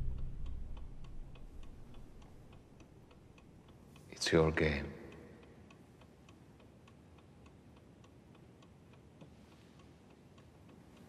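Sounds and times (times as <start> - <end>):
clock ticking faintly: 0.0 - 11.0.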